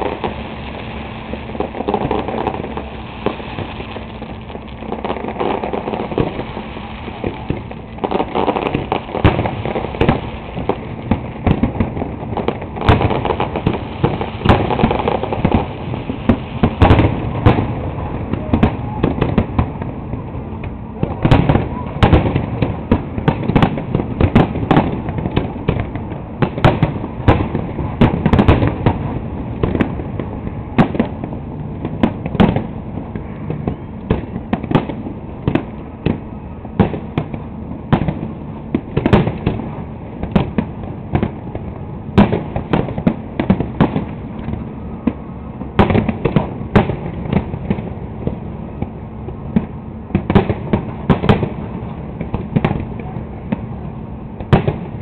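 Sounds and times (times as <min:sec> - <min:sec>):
fireworks bursting and crackling: 0:00.0 - 0:55.0
loud firework booms: 0:00.0 - 0:55.0.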